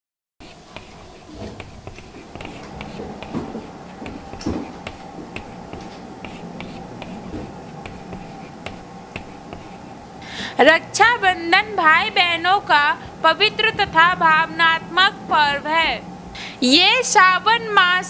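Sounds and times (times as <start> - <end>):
steady low hum: 0.4 - 18.0.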